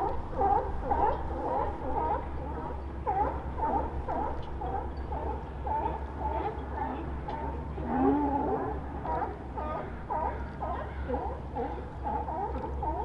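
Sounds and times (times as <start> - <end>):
sea lions barking: 0.0 - 13.0.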